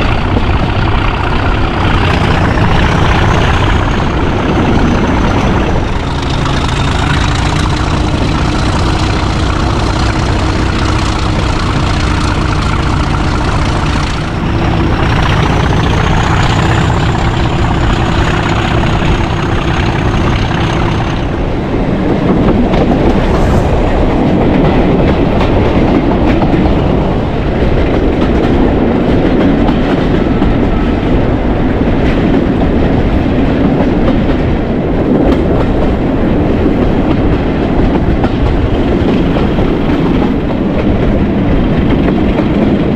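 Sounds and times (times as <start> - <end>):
deep rumble: 0.0 - 42.9
diesel locomotive engine: 0.0 - 42.9.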